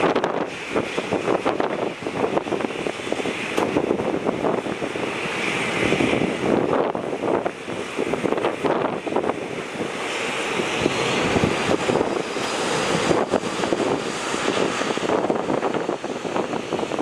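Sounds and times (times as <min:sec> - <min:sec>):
jet engine roar: 0:00.0 - 0:17.0
wind buffeting microphone: 0:00.0 - 0:17.0.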